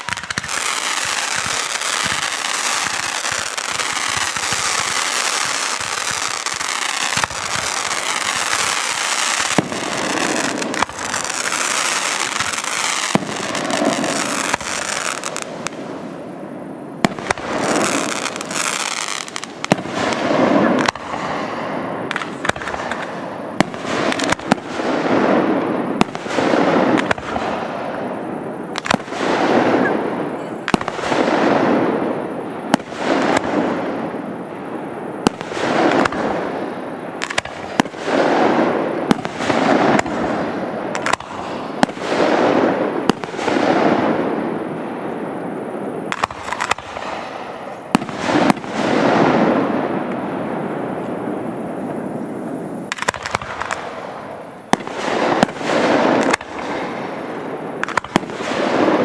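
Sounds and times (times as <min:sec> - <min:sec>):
fireworks bangs and cracks: 0:00.0 - 0:59.0
fireworks rushing swell: 0:00.0 - 0:59.0.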